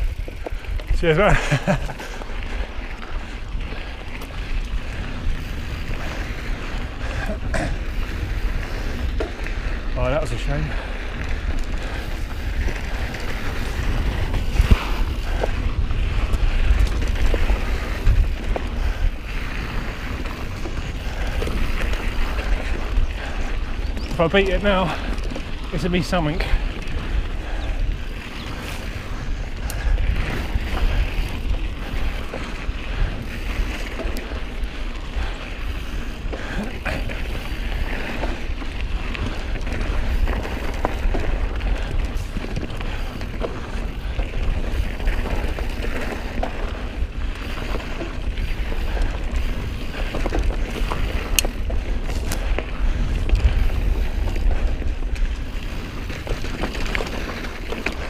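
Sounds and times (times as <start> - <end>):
bike clicks and rattles: 0.0 - 58.0
bike tyres rumbling on dirt: 0.0 - 58.0
wind buffeting microphone: 0.0 - 58.0.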